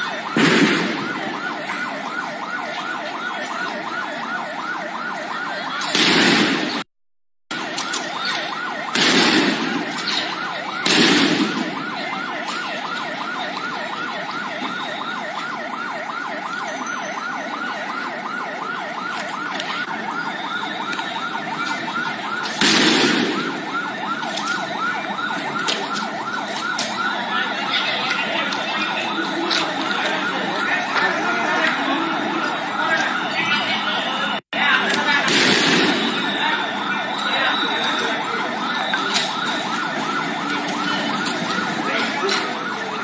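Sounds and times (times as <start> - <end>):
siren in fast yelp: 0.0 - 6.9, 7.5 - 43.0.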